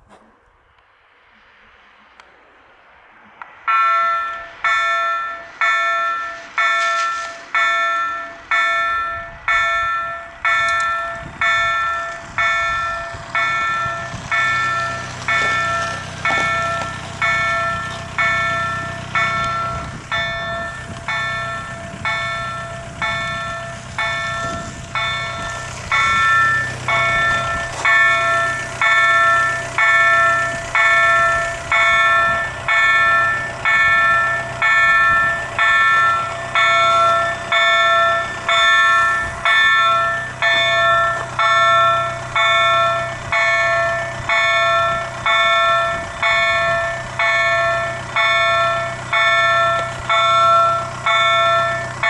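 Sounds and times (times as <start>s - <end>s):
level crossing warning bell: 3.7s - 52.0s.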